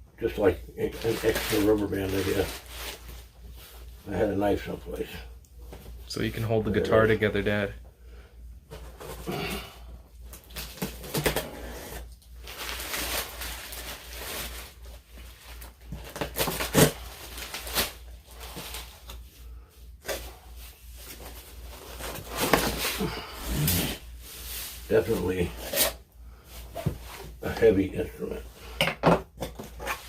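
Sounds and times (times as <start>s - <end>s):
low electrical hum: 0.0s - 30.0s
cardboard and foam rustling: 0.3s - 6.2s, 10.2s - 28.5s.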